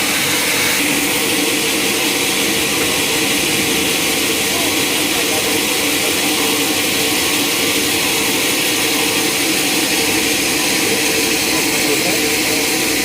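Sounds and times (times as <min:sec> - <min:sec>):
sawmill machinery hissing: 0:00.0 - 0:13.0.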